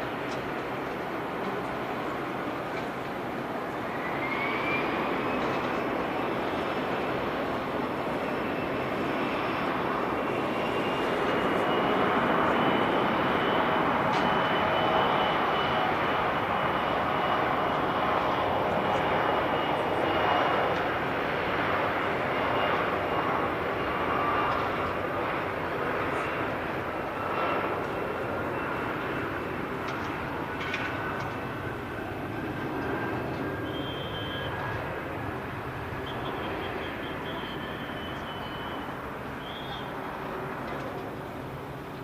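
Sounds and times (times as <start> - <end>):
jet engine whine and roar: 0.0 - 42.0.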